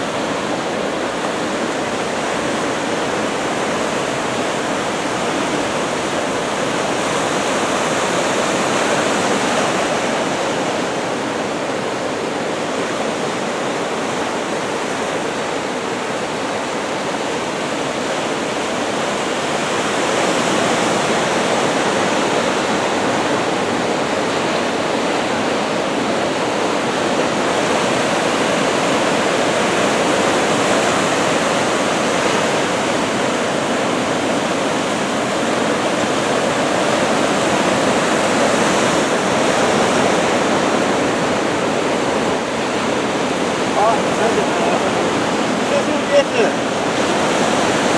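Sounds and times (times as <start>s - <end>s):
waves breaking on shore: 0.0s - 47.9s.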